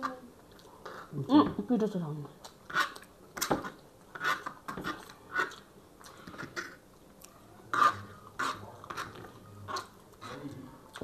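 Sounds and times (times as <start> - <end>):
people chewing and smacking: 0.4 - 1.2, 2.4 - 11.0.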